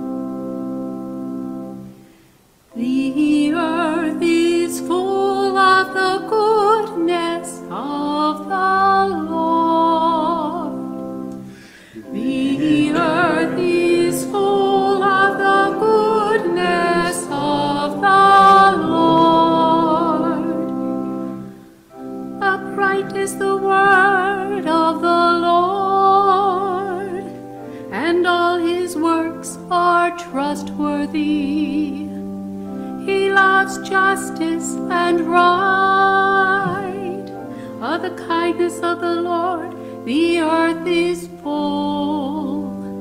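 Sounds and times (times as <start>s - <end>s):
sustained organ chords: 0.0s - 43.0s
woman singing with vibrato: 2.7s - 10.9s, 11.9s - 21.0s, 22.4s - 32.2s, 33.1s - 43.0s.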